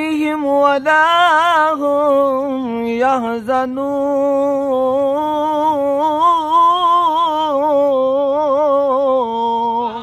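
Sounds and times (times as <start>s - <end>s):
man reciting melodically: 0.0s - 10.0s.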